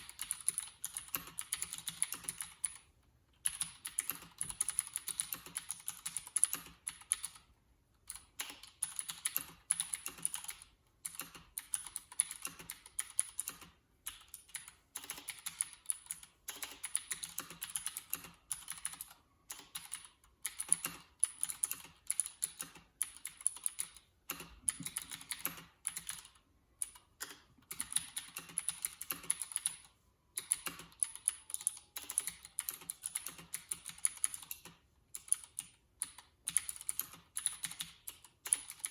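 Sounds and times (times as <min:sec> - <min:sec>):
clicky mechanical keyboard typing: 0:00.0 - 0:38.9.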